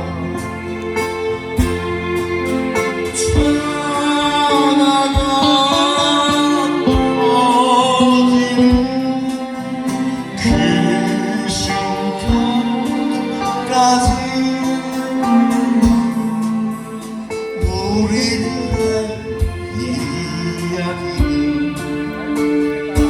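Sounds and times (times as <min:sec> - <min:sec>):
guitar: 0:00.0 - 0:23.0
low beat: 0:00.0 - 0:23.0
person singing: 0:00.0 - 0:23.0.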